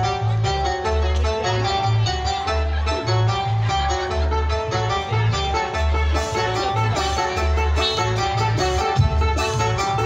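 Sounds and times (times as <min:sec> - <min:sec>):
drum and bass beat: 0:00.0 - 0:10.0
live band instrumental music: 0:00.0 - 0:10.0
plucked string melody: 0:00.0 - 0:10.0.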